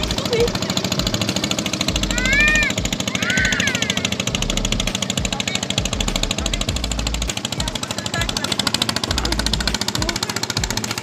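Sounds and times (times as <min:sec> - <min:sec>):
boat engine knocking: 0:00.0 - 0:11.0.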